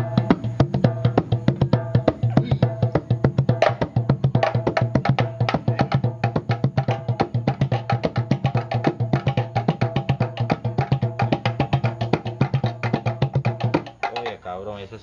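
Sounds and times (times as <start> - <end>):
metal barrel and can drumming: 0.0 - 14.4.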